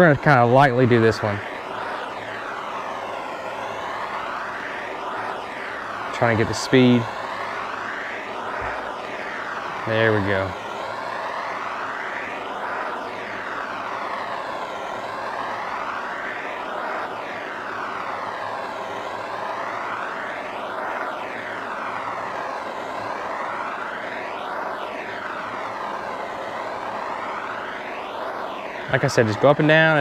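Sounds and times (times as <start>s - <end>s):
propane torch hissing: 0.0s - 30.0s.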